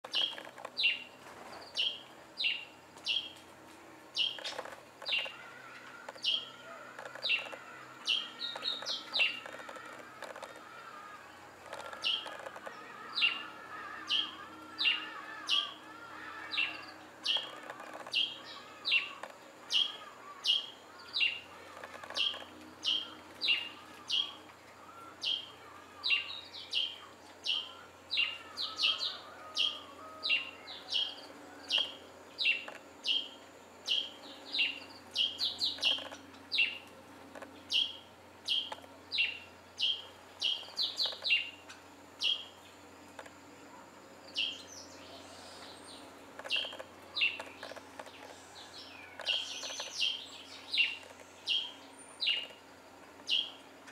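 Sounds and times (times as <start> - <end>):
soft low bird twittering: 0.0 - 3.4, 4.1 - 53.9.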